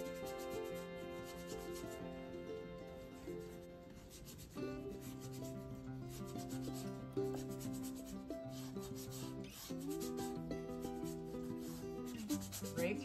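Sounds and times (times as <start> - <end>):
paintbrush scrubbing on panel: 0.0 - 2.0, 4.0 - 10.4, 11.0 - 13.0
background music with held notes: 0.0 - 13.0.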